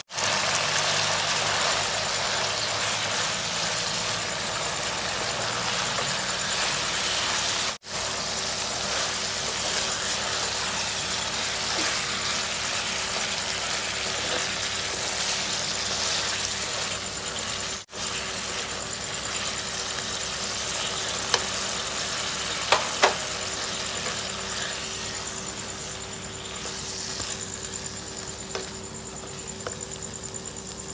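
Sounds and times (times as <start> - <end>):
food sizzling in a wok: 0.0 - 30.9.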